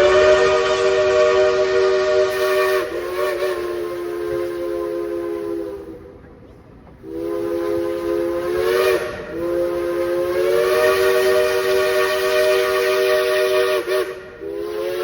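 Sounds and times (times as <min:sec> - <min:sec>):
steam locomotive chime whistle: 0:00.0 - 0:06.0, 0:07.0 - 0:15.0.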